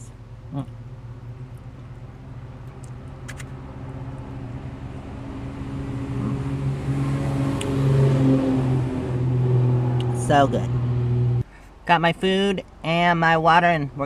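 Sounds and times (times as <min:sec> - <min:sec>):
vehicle engine humming: 0:00.0 - 0:11.9.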